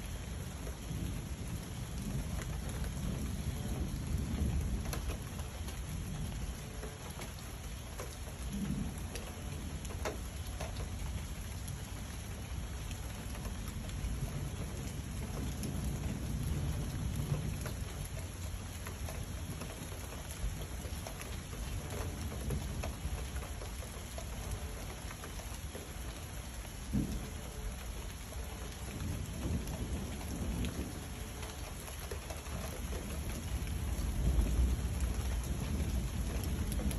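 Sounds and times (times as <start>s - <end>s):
low rolling thunder: 0.0s - 36.9s
raindrops ticking: 0.0s - 36.9s
steady rain: 0.0s - 36.9s.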